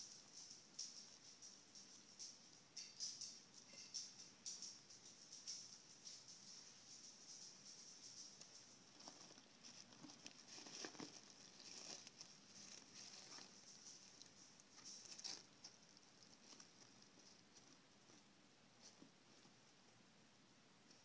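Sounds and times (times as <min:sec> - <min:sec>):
faint rustling and clicks: 0:00.0 - 0:20.1, 0:20.8 - 0:21.0.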